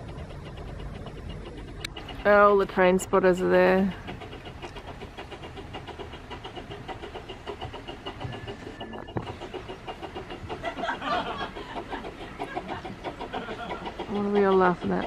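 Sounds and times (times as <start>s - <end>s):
steam train rhythmic beat: 0.0s - 15.0s.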